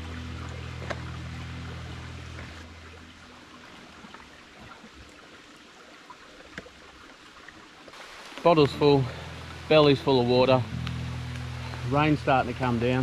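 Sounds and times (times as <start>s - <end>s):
creek water trickling over rocks: 0.0s - 13.0s.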